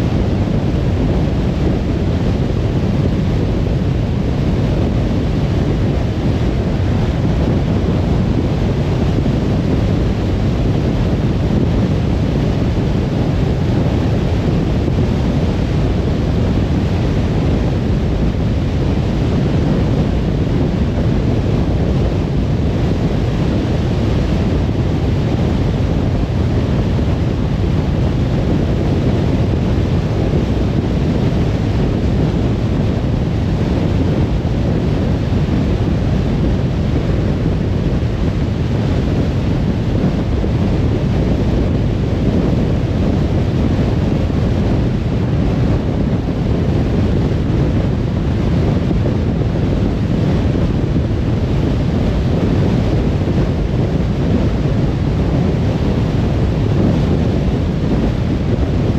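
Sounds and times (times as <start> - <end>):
car road noise from tyres and wind: 0.0 - 58.9.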